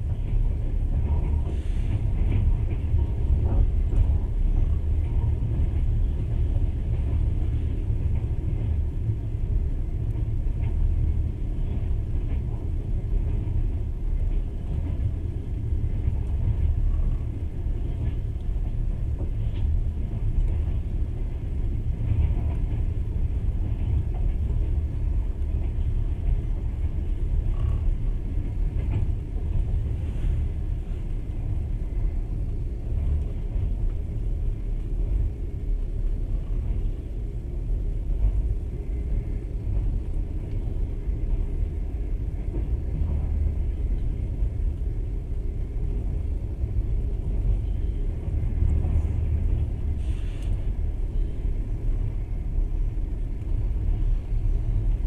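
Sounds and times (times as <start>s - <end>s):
train rumbling inside carriage: 0.0s - 55.0s.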